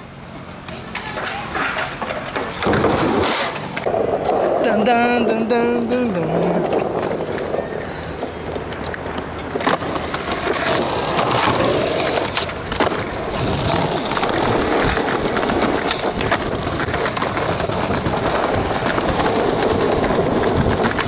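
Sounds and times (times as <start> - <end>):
skateboard clacks: 0.0 - 21.0
skateboard wheels rolling on asphalt: 0.0 - 21.0.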